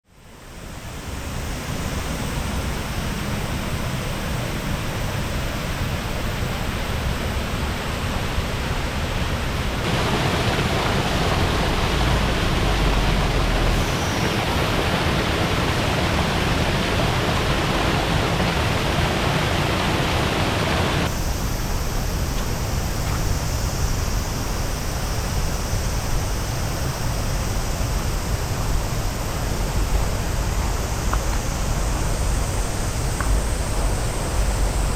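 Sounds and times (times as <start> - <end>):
waterfall rushing: 4.6 - 34.9.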